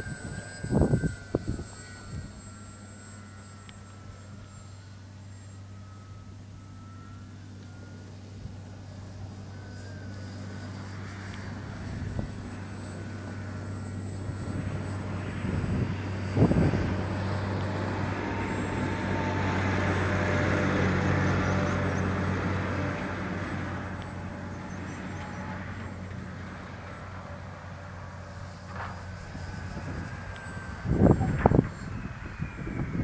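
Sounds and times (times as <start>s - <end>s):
propeller aircraft flying overhead: 0.0s - 33.0s.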